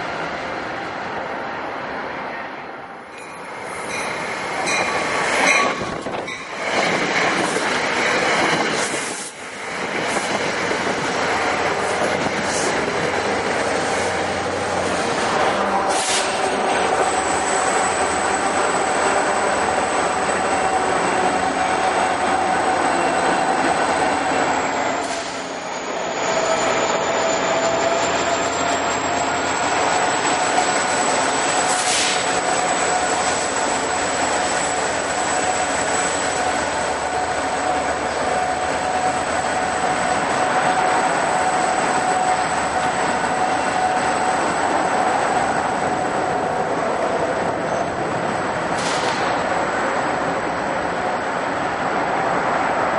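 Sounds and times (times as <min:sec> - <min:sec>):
train wheels rumbling on rails: 0:03.0 - 0:52.9.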